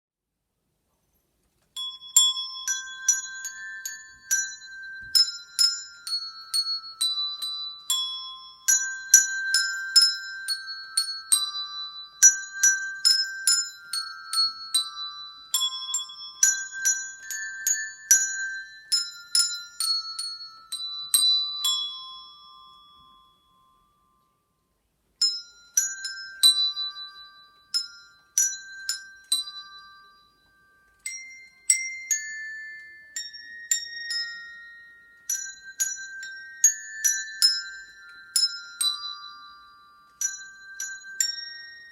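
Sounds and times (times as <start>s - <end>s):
handbells playing a tune: 1.8s - 41.9s.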